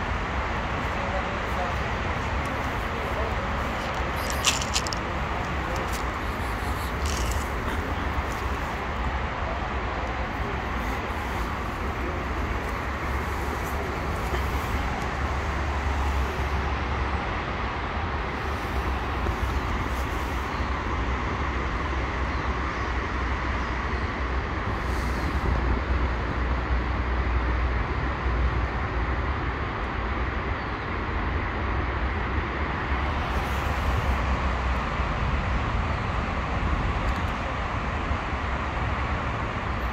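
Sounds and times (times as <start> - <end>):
outdoor street noise low rumble: 0.0 - 39.9.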